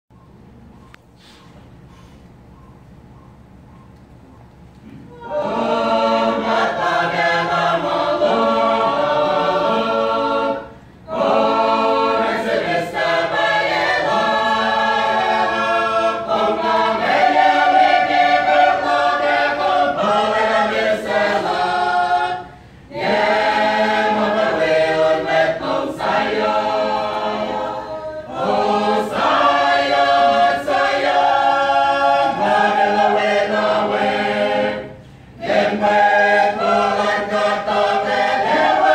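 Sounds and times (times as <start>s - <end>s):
mixed choir singing in harmony: 5.1s - 38.9s.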